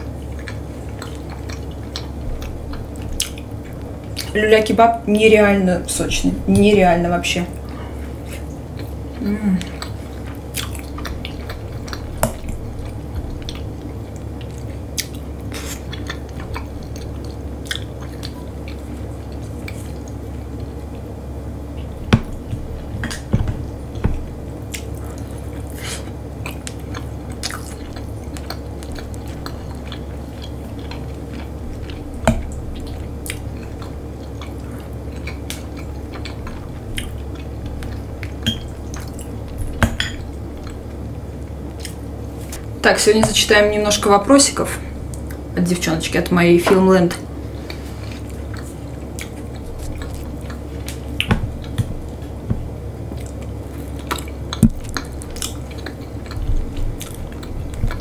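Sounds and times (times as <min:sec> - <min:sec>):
person chewing meat: 0:00.0 - 0:04.4, 0:07.6 - 0:42.8, 0:44.9 - 0:45.5, 0:47.2 - 0:58.0
steady low hum: 0:00.0 - 0:58.0.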